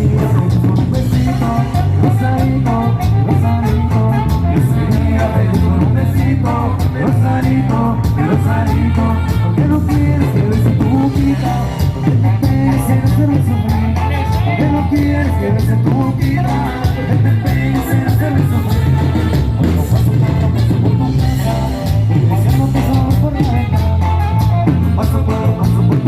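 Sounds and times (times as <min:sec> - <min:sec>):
band playing cumbia: 0:00.0 - 0:26.0
person singing: 0:00.0 - 0:26.0.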